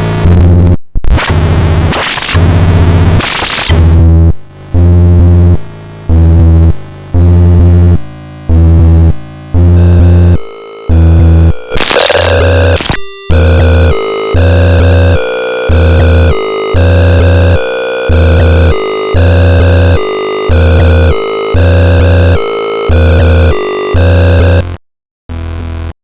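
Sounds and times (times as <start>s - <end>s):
distorted glitchy synth music: 0.0s - 25.9s.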